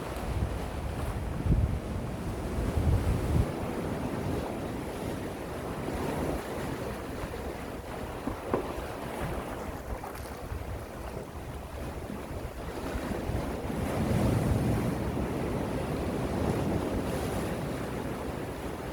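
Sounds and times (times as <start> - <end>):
sea waves washing onto shore: 0.0 - 18.9
wind buffeting microphone: 0.0 - 18.9.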